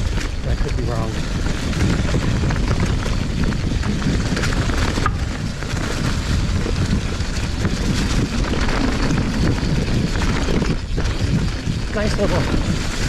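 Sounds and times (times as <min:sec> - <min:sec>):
bike clicks and rattles: 0:00.0 - 0:13.0
bike tyres on dirt trail: 0:00.0 - 0:13.0
wind on microphone: 0:00.0 - 0:13.0.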